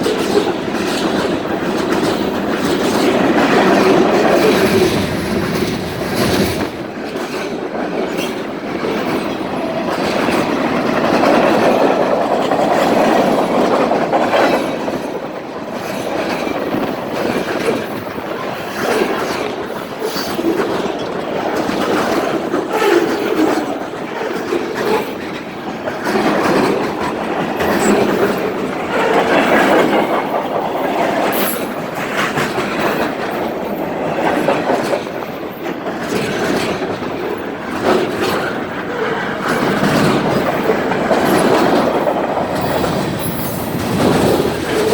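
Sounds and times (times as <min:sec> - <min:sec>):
train cars rumbling past: 0:00.0 - 0:44.9
wheels clattering over rail joints: 0:00.0 - 0:44.9.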